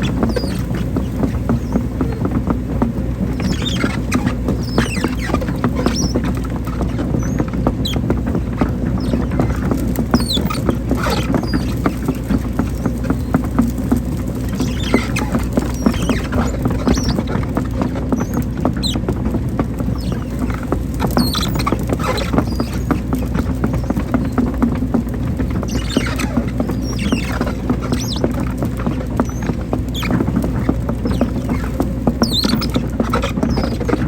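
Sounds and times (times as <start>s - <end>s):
clicks and high-pitched squeaks: 0.0s - 34.0s
excavator diesel engine running: 0.0s - 34.0s.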